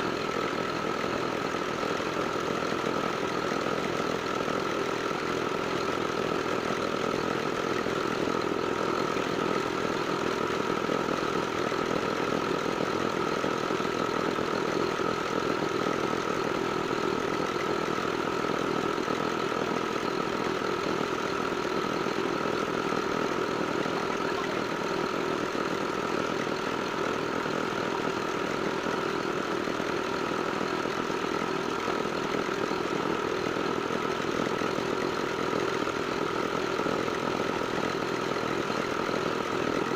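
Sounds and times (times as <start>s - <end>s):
small diesel engine running: 0.0s - 39.9s.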